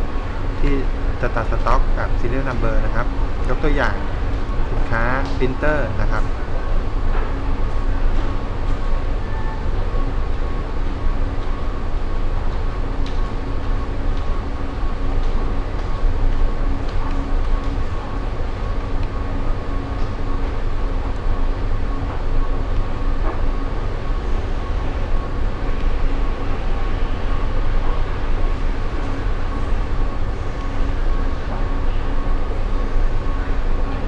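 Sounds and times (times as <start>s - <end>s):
faint hum: 0.0s - 34.0s
low rumbling background noise: 0.0s - 34.0s
thin high hum: 0.0s - 34.0s.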